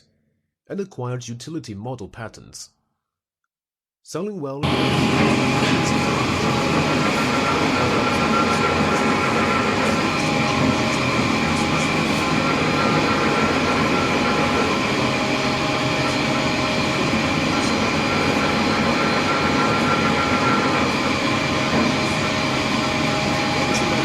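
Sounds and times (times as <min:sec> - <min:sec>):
granulator machine running: 0:04.6 - 0:24.0
machine whining tones: 0:04.6 - 0:24.0.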